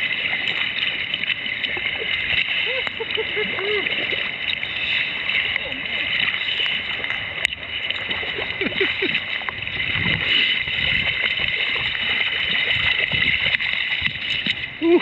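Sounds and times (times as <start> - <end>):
faint small splashes: 0.0 - 15.0
stream water rushing: 0.0 - 15.0.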